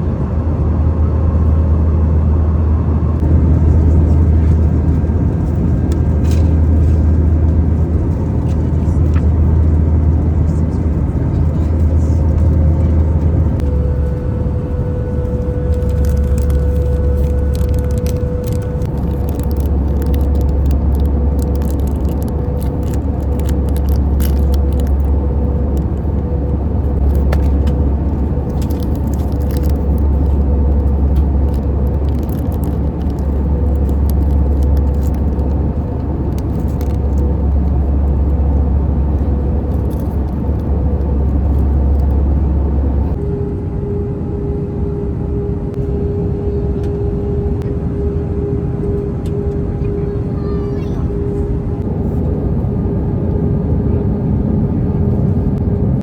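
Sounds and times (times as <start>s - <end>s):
low engine rumble: 0.0s - 56.0s
faint steady whine: 1.0s - 55.6s.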